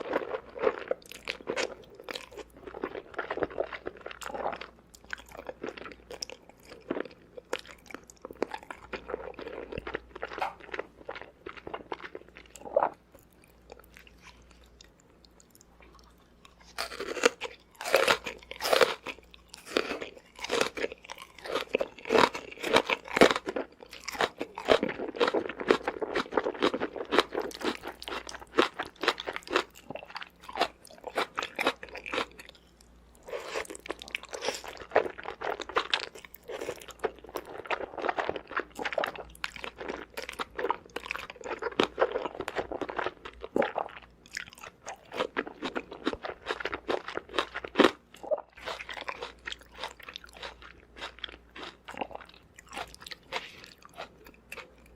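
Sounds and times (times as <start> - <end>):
chewing crunchy food: 0.0 - 54.9.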